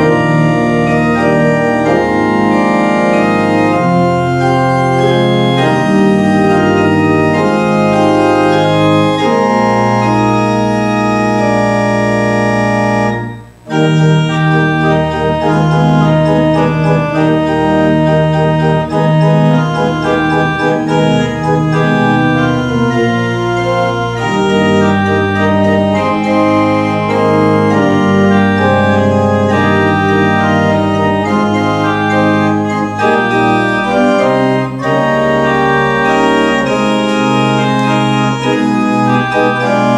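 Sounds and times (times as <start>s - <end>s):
pipe organ chords: 0.0s - 39.9s.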